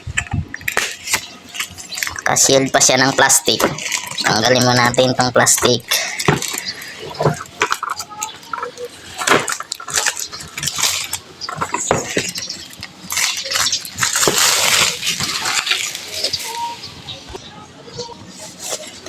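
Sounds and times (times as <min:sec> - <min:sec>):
plastic wrap crinkling and rustling: 0:00.0 - 0:19.0.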